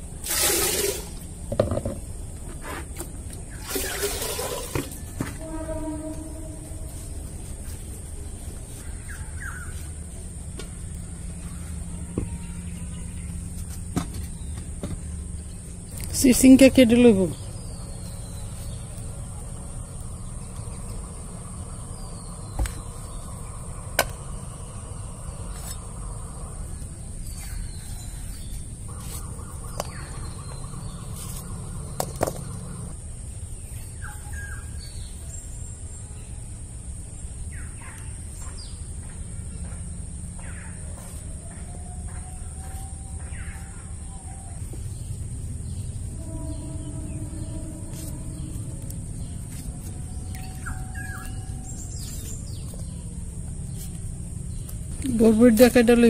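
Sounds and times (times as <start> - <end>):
birds chirping: 3.4 - 56.0
high insect drone: 3.6 - 56.0.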